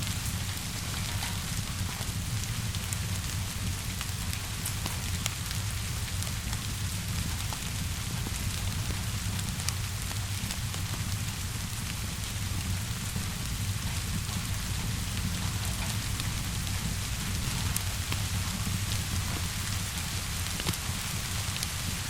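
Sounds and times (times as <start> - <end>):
rain hissing: 0.0 - 22.0
wood fire crackling and popping: 0.0 - 22.0.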